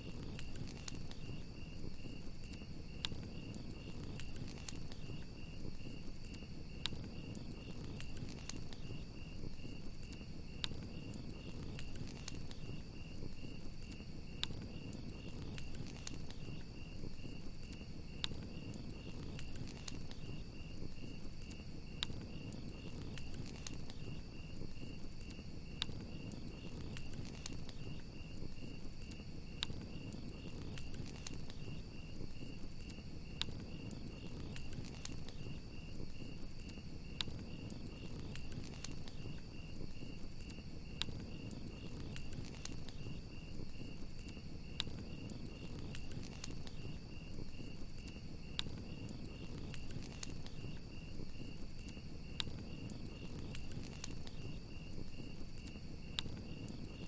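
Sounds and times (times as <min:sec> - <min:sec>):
campfire crackling and popping: 0:00.0 - 0:57.0
crickets chirping: 0:00.0 - 0:57.0
low rumble of fire burning: 0:00.0 - 0:57.0.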